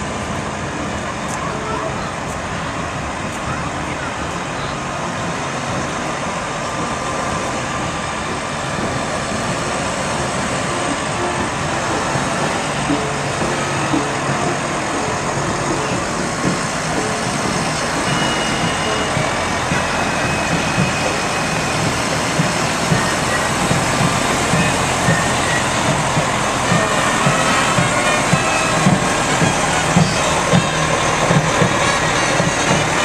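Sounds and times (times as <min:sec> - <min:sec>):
fire engine and ambulance engines: 0:00.0 - 0:33.0.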